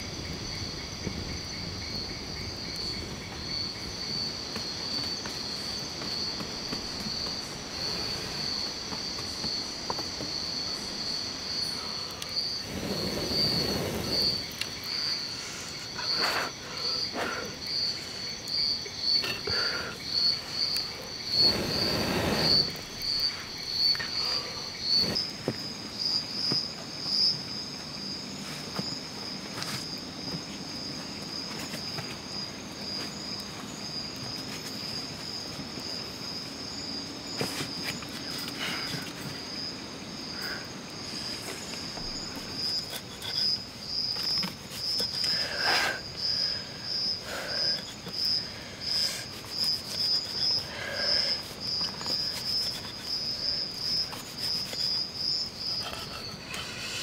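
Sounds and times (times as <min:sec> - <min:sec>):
insects chirping in pulsing trill: 0:00.0 - 0:57.0.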